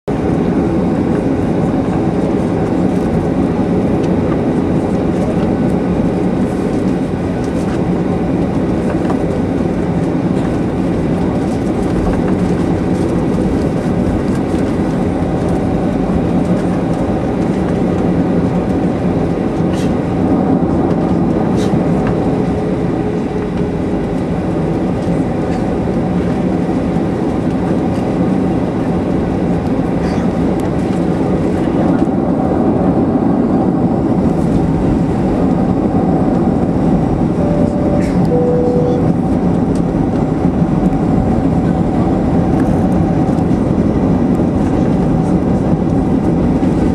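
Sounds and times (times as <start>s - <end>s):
jet engine cabin rumble: 0.1s - 46.9s.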